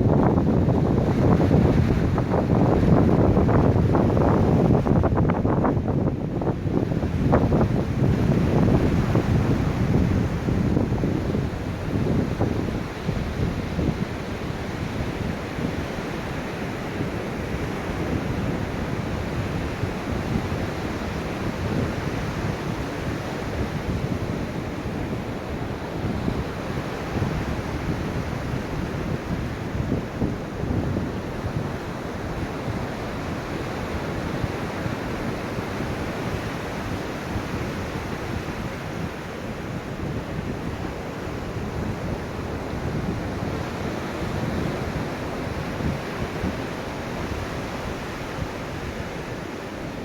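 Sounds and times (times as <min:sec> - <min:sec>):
ocean surf rushing: 0:00.0 - 0:50.0.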